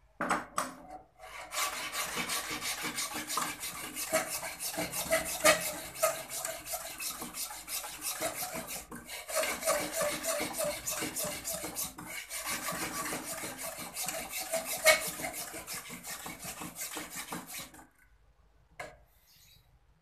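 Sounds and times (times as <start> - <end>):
rasp filing horn: 1.3 - 17.7.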